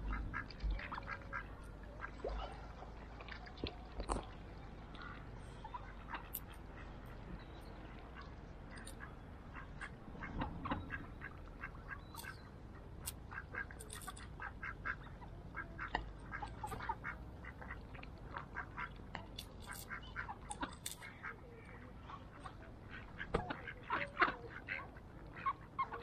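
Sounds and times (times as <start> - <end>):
ducks quacking: 0.0 - 2.6, 5.0 - 7.4, 8.0 - 26.0.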